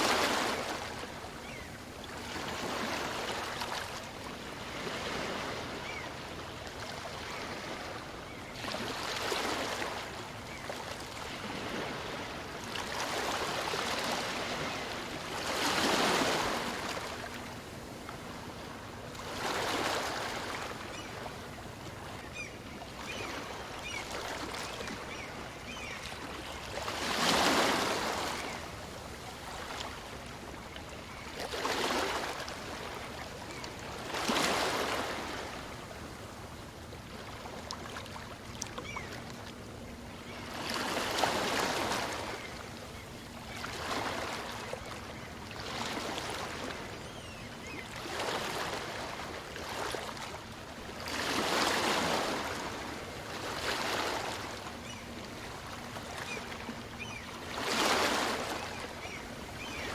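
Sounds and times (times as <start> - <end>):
small waves breaking on a beach: 0.0 - 59.9.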